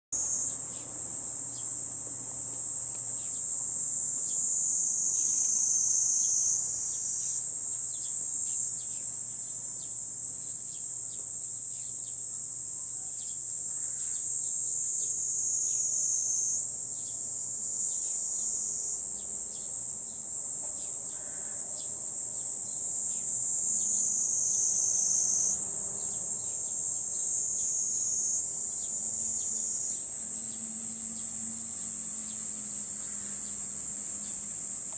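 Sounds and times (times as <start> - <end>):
cicadas shrilling: 0.2 - 34.9.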